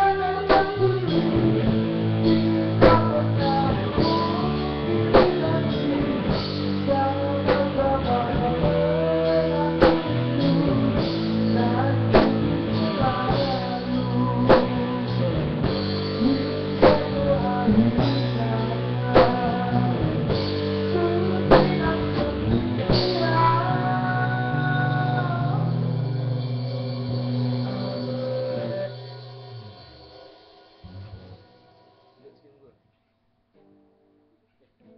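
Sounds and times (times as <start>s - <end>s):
rock band playing slow song: 0.0s - 32.1s.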